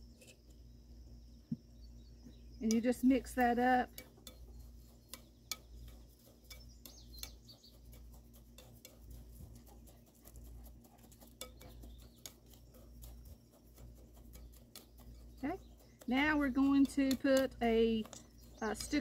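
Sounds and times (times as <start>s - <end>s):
spoon scraping in bowl: 2.6s - 19.0s.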